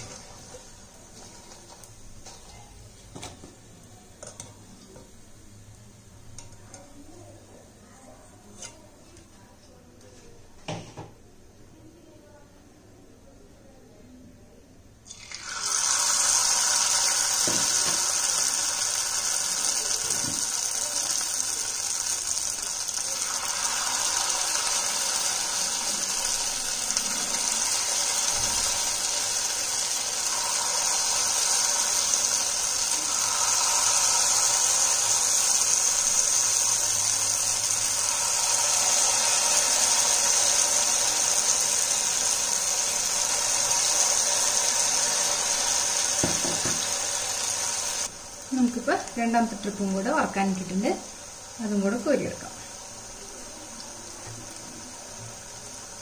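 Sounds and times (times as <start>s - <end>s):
food deep-frying in hot oil: 0.0s - 7.6s, 15.0s - 56.0s.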